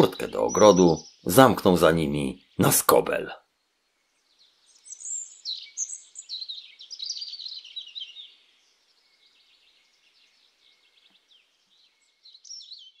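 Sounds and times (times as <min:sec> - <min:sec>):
songbird twittering with trills: 0:00.0 - 0:13.0.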